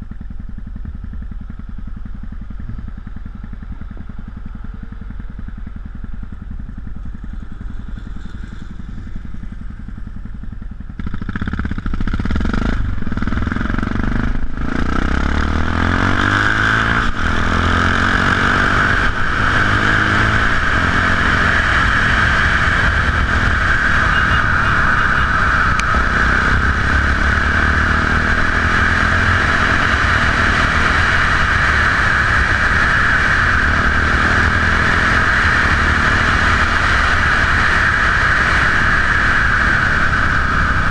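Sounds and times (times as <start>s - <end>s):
motorcycle engine revving: 0.0s - 40.9s
wind and road rush: 0.0s - 40.9s.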